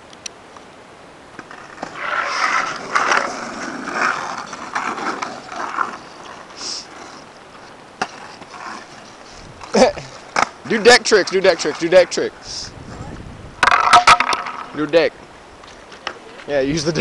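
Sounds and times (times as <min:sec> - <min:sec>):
skateboard wheels rolling on asphalt: 0:00.0 - 0:17.0.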